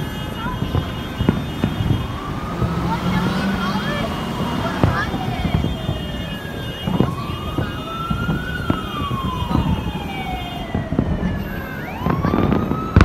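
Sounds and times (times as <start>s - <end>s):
firework pops and crackles: 0.0s - 4.0s, 4.6s - 13.0s
siren wailing: 0.0s - 13.0s.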